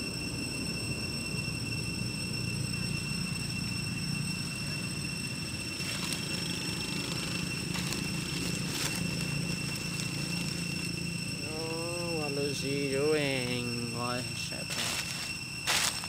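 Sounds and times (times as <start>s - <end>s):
high-pitched whine: 0.0s - 16.0s
low hum: 0.0s - 16.0s.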